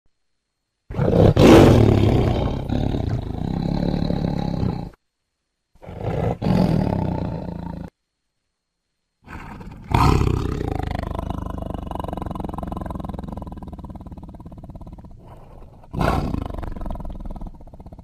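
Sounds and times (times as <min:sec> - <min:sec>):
tiger roaring: 0:00.9 - 0:05.0, 0:05.8 - 0:07.9, 0:09.2 - 0:18.0.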